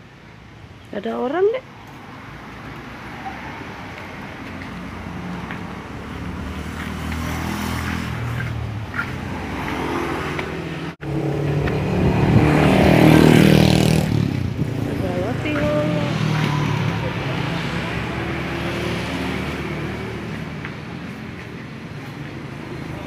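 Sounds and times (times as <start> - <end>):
motorbikes passing: 0.3 - 23.0.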